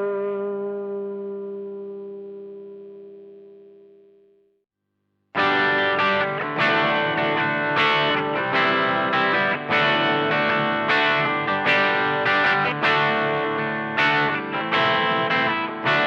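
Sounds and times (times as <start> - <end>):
overdriven electric guitar chords: 0.0 - 4.4, 5.4 - 16.0.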